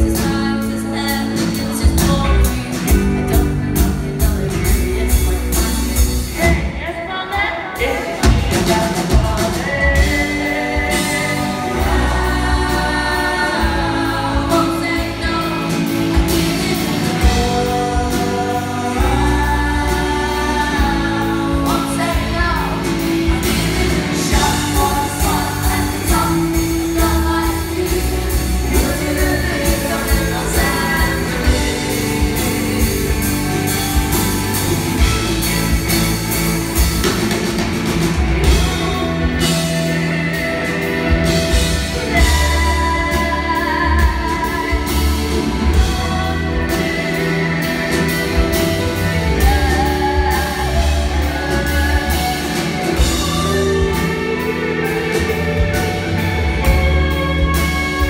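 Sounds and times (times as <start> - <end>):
woman singing: 0.0 - 36.0, 36.8 - 58.0
rock band playing live: 0.0 - 58.0.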